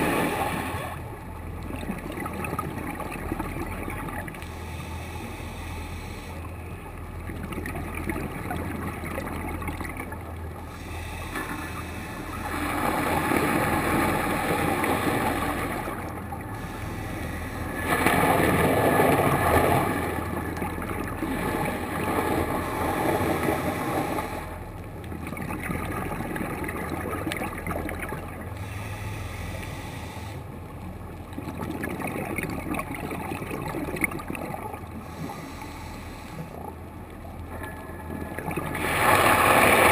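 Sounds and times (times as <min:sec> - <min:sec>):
rushing bubbling water: 0:00.0 - 0:04.6, 0:07.2 - 0:17.0, 0:17.6 - 0:28.6, 0:31.0 - 0:35.5, 0:36.5 - 0:39.9
low underwater hum: 0:00.0 - 0:39.9.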